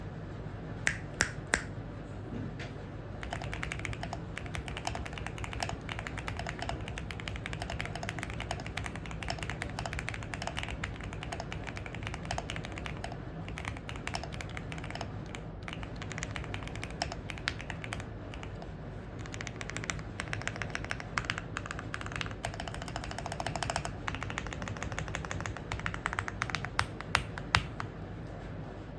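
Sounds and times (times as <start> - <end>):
steady low hum: 0.0 - 28.9
sharp keyboard clacks: 3.2 - 27.9.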